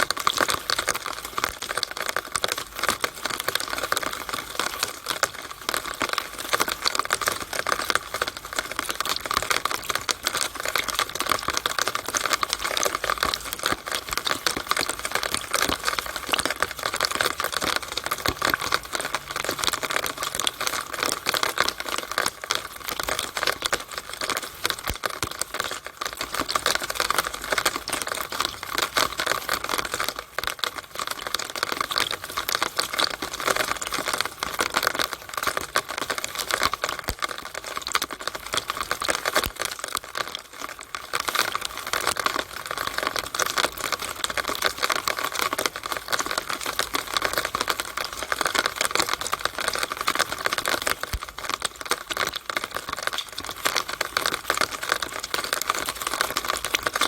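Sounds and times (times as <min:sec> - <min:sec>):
rainwater dripping in a downspout: 0:00.0 - 0:57.0.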